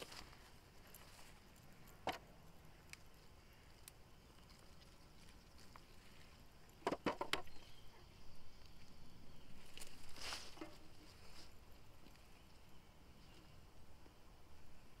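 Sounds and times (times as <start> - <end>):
crackling rustles: 0.0 - 7.7, 8.5 - 13.6
plant stems and foliage rustling: 0.0 - 7.9, 8.5 - 13.6.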